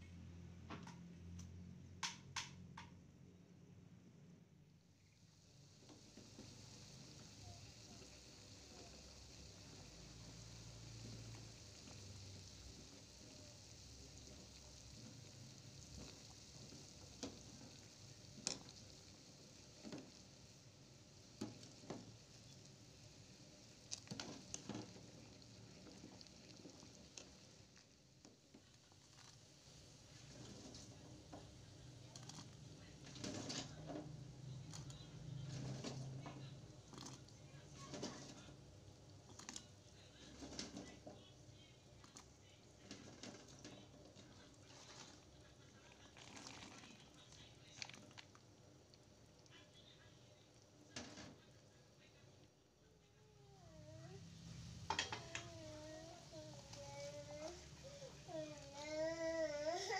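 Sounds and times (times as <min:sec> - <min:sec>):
soup bubbling in a pot: 0:04.8 - 0:52.8.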